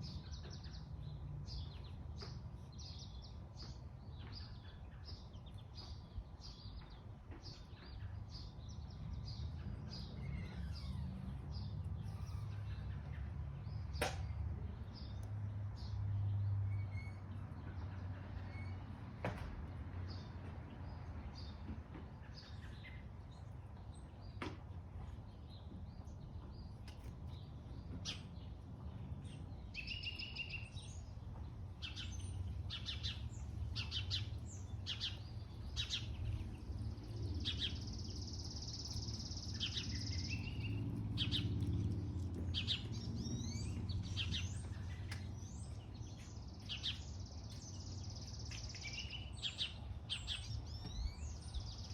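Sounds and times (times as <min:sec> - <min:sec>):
birds chirping: 0:00.0 - 0:18.8, 0:20.1 - 0:51.9.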